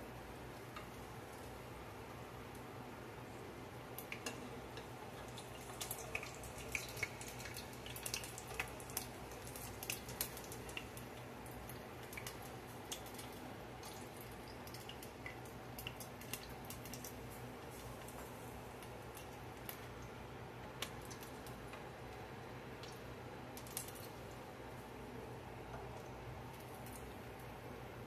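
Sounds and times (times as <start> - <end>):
oil crackling and popping: 3.9 - 24.5, 25.7 - 27.6.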